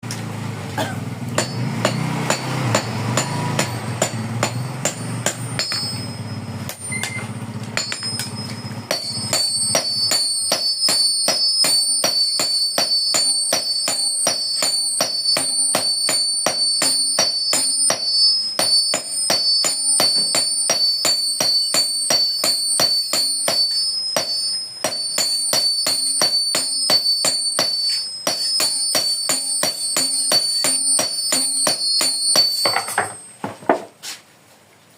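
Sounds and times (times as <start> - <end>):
hammer striking steel on anvil: 0.8 - 33.9.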